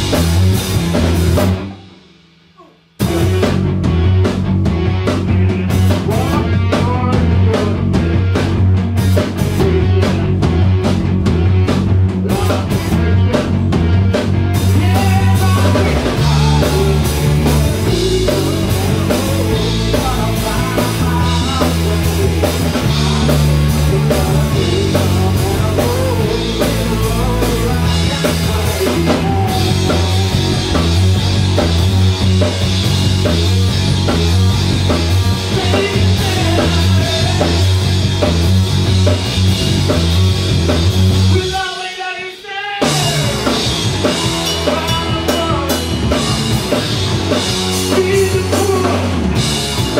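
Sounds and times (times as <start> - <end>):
distorted electric guitar: 0.0 - 2.0, 3.0 - 42.0, 42.7 - 49.9
drum kit: 0.0 - 49.9
rock band playing loud: 0.0 - 49.9.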